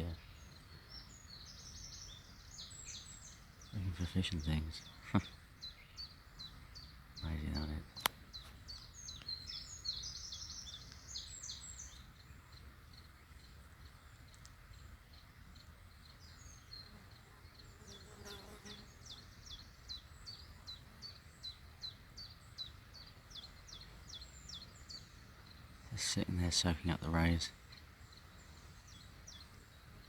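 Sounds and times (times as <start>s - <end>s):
low hiss of background noise: 0.0s - 30.0s
small birds chirping: 0.0s - 30.0s.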